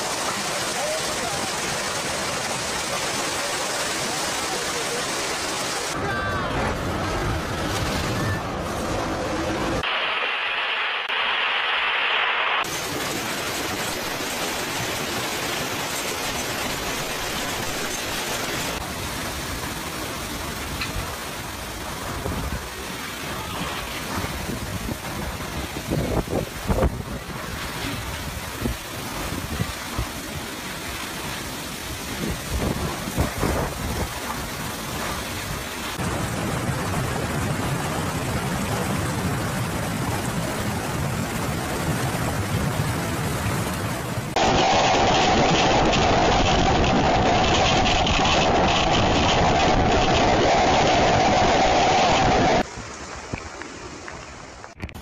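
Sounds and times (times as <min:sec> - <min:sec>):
heavy rain and hail: 0:00.0 - 0:55.0
storm wind: 0:05.8 - 0:55.0.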